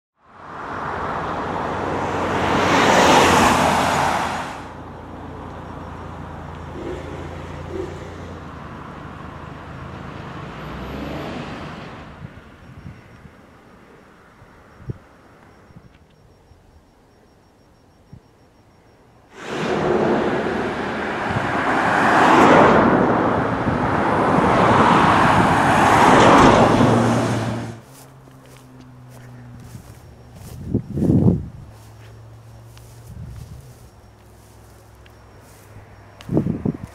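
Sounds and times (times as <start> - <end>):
car passing: 0.3 - 15.8, 19.3 - 36.9.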